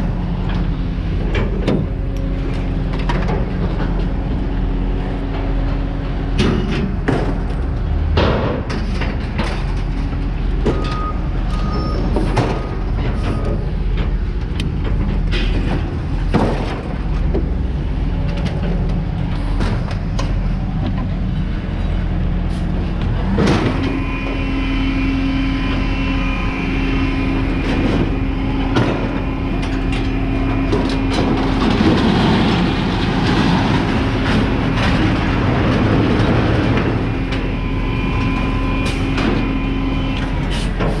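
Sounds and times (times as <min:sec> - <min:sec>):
heavy machinery whine: 0:00.0 - 0:41.0.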